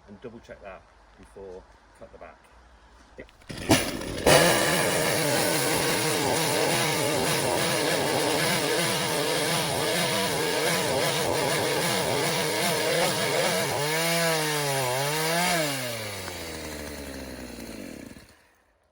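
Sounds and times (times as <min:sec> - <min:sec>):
chainsaw cutting wood: 0:03.4 - 0:18.9.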